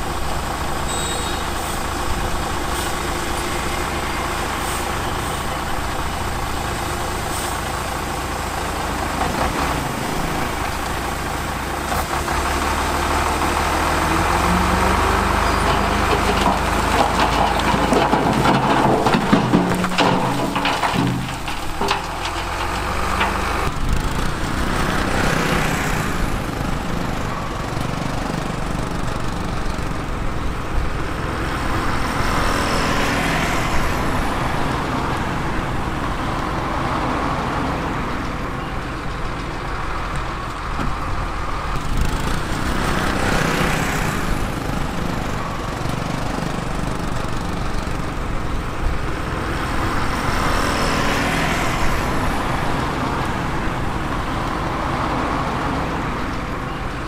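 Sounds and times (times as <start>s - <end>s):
diesel engines running: 0.0s - 57.0s
vehicles passing rush: 0.0s - 57.0s.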